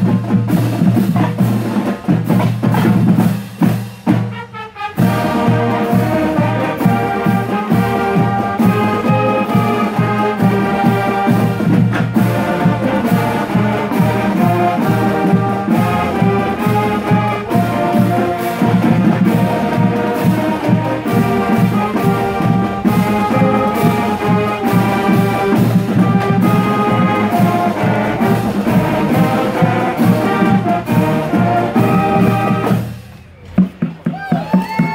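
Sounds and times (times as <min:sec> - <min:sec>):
marching band playing: 0:00.0 - 0:34.9.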